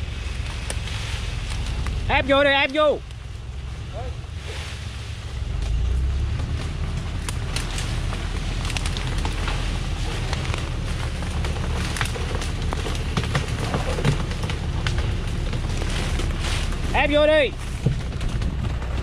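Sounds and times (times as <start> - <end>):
branches crackling under wheels: 0.0 - 19.0
truck engine under load: 0.0 - 19.0.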